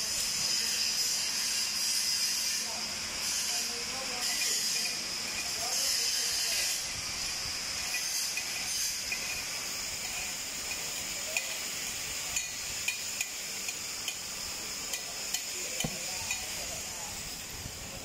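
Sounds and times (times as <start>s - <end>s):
gas hissing from torch: 0.0s - 18.0s.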